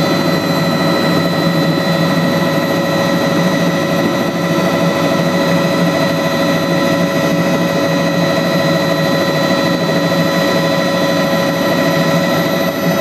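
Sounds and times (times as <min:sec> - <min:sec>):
helicopter rotor beating: 0:00.0 - 0:13.0
helicopter turbine whine: 0:00.0 - 0:13.0.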